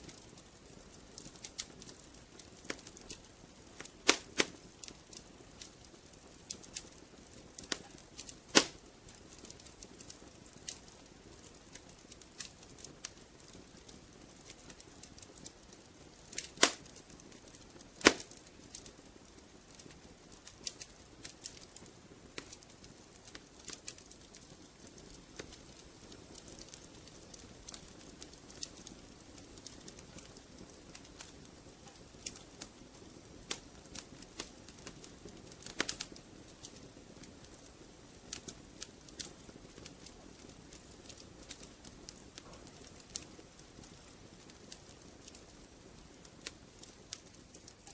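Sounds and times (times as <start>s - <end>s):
fire popping: 0.0s - 47.9s
soft steady hiss: 0.0s - 47.9s
wood fire crackling: 0.0s - 47.9s.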